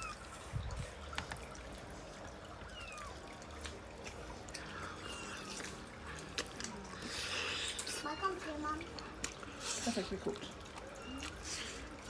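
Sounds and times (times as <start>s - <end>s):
wet chewing and mouth noises: 0.0s - 12.0s.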